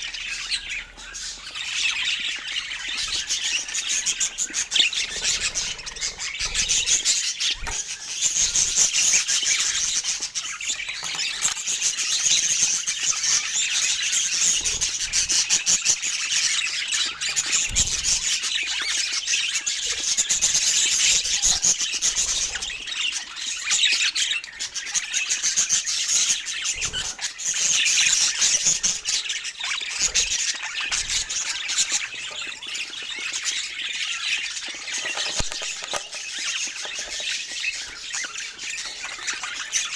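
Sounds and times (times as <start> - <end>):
parakeets chattering and squawking: 0.0 - 39.9.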